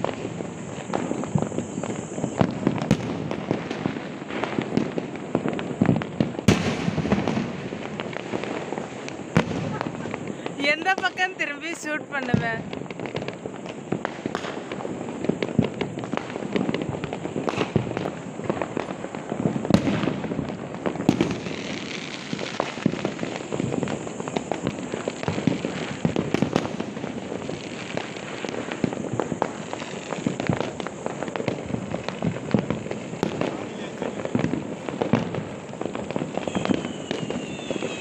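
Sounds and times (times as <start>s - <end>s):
firecrackers crackling: 0.0s - 38.0s
loud firework bangs: 0.0s - 38.0s.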